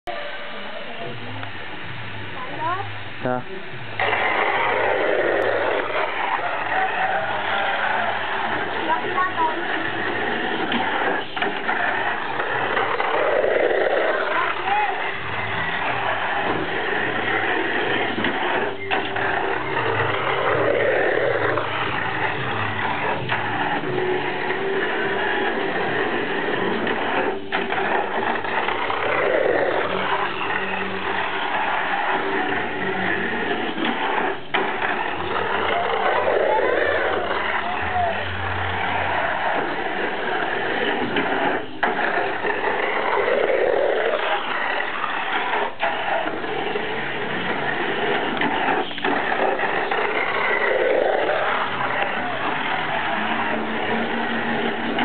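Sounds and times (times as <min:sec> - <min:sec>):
toy car motors whirring: 0:04.0 - 0:55.0.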